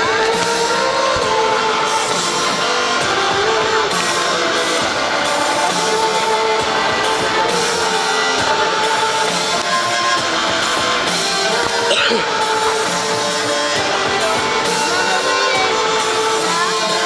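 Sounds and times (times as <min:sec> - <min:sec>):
loud music over sound system: 0:00.0 - 0:17.0.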